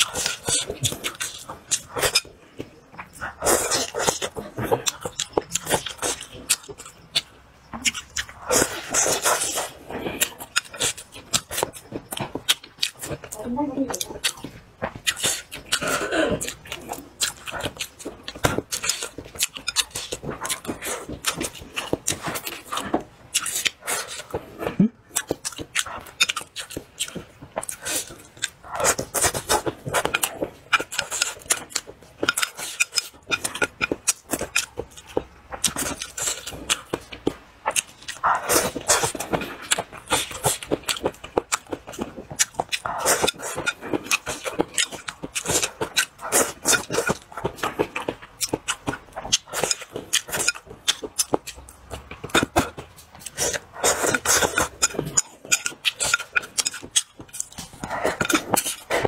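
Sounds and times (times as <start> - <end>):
chewing and lip-smacking: 0.0 - 59.0.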